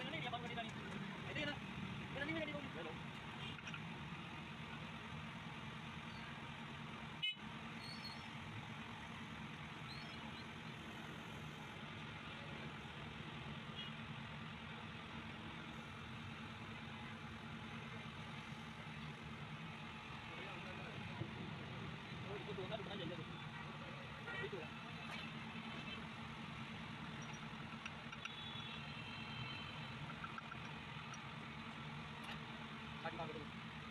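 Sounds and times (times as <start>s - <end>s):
street traffic hum: 0.0s - 33.9s.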